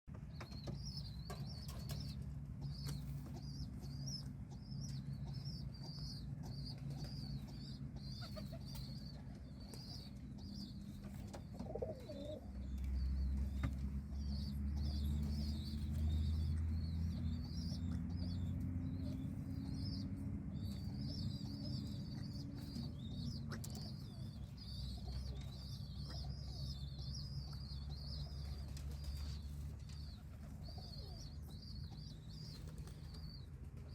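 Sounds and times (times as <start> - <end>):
low steady rumble: 0.1 - 33.9.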